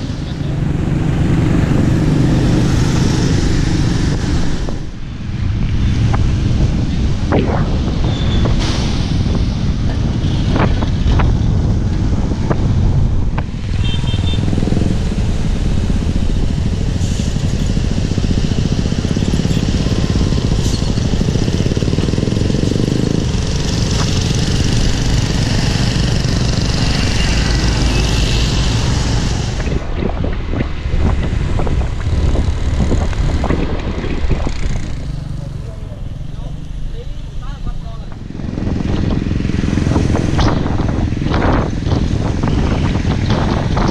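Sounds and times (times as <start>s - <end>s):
tyres on wet road: 0.0s - 43.9s.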